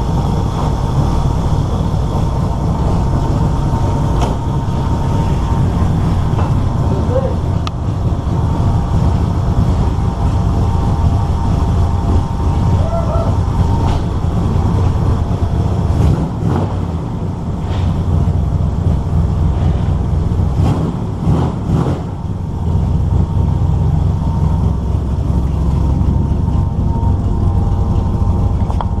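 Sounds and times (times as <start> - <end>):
pickup engine rumbling: 0.0 - 29.0.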